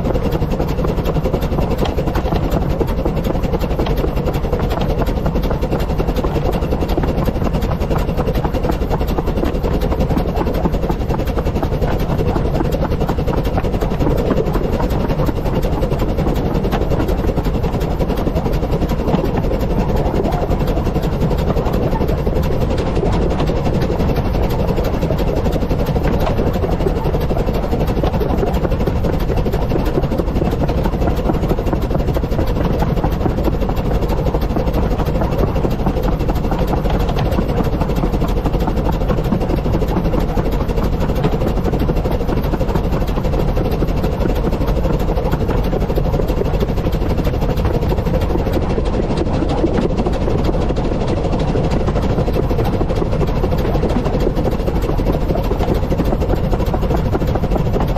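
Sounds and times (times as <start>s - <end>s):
steam train running: 0.0s - 52.6s.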